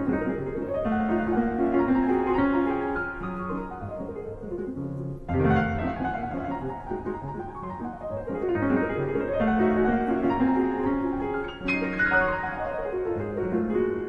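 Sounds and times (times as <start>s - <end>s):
loud low piano chord: 0.0s - 14.0s
piano music: 0.0s - 14.0s.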